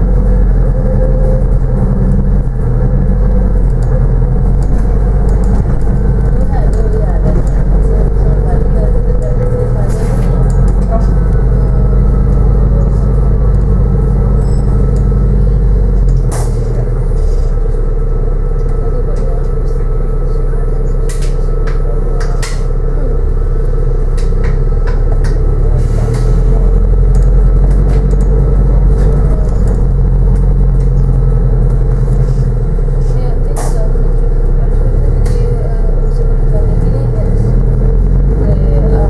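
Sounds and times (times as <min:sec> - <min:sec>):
bus engine drone: 0:00.0 - 0:39.0
bus ride rumble: 0:00.0 - 0:39.0.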